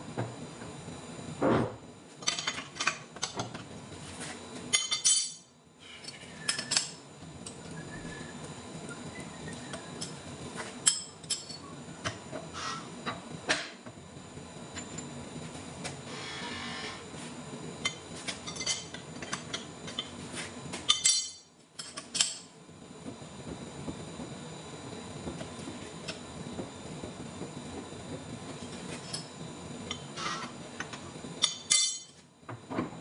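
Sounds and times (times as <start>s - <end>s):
low workshop hum: 0.0s - 33.0s.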